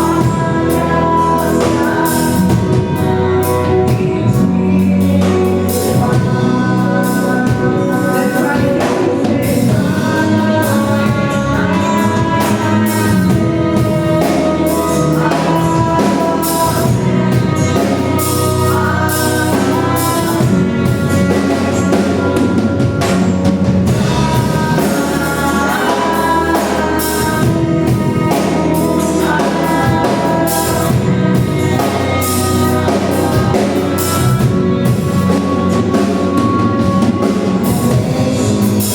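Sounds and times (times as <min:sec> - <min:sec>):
band with drum kit: 0:00.0 - 0:38.9
voices singing: 0:00.0 - 0:38.9.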